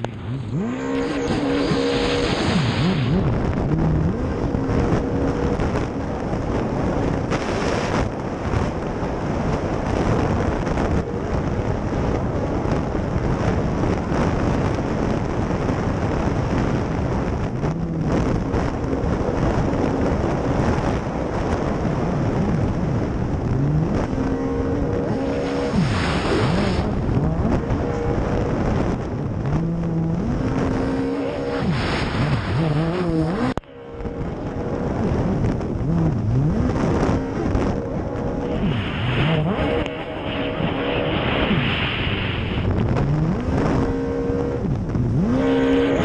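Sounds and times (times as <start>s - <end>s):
jet ski engine running hard: 0.0s - 46.0s
wind buffeting microphone: 0.0s - 46.0s.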